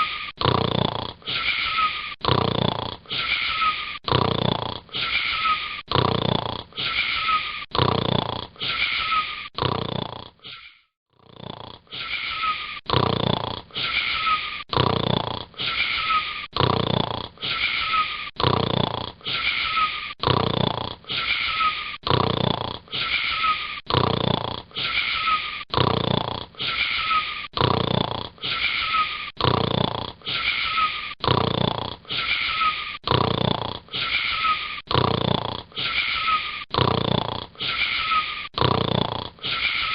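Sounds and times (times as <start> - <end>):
boy snoring: 0.0 - 39.9.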